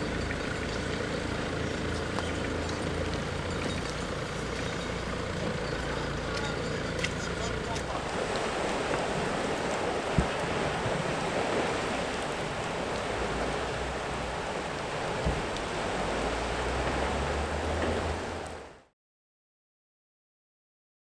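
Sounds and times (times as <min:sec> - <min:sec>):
water rushing and splashing: 0:00.0 - 0:18.9.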